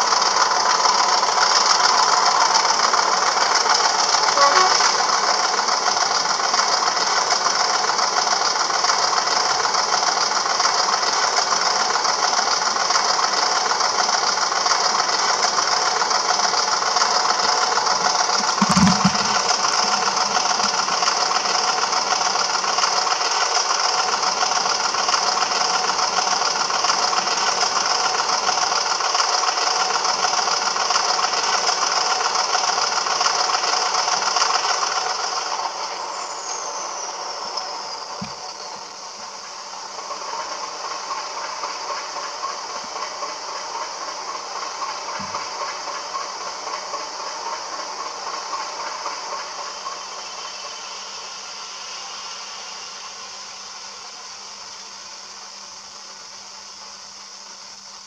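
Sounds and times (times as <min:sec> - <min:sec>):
model diesel engine sound with rattle: 0:00.0 - 0:58.0.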